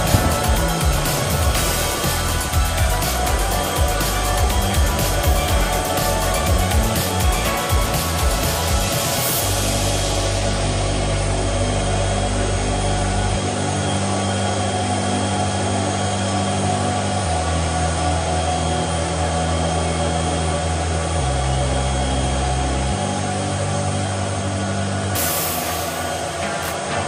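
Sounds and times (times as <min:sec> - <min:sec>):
cooling fans whirring: 0:00.0 - 0:27.0
steady high whine: 0:00.0 - 0:27.0.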